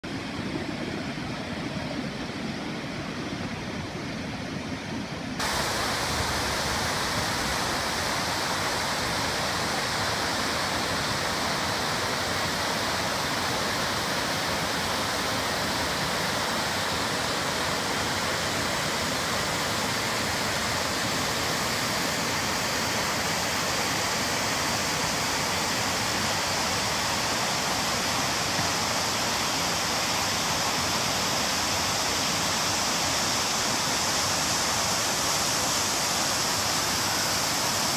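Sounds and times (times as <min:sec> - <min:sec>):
waterfall rushing: 0:05.4 - 0:37.9.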